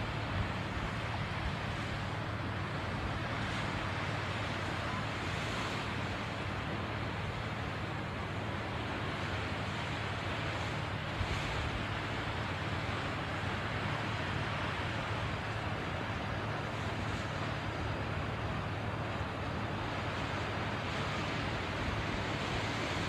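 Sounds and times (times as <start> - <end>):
surf on rocky shore: 0.0 - 23.0.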